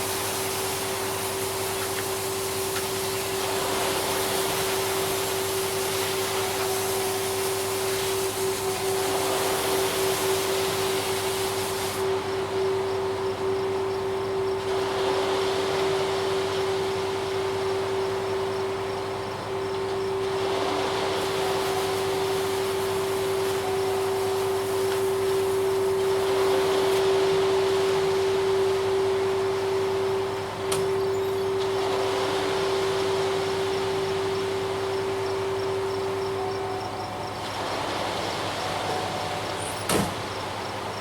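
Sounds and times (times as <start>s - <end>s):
concrete truck engine running: 0.0s - 41.0s
steady whine: 0.0s - 41.0s.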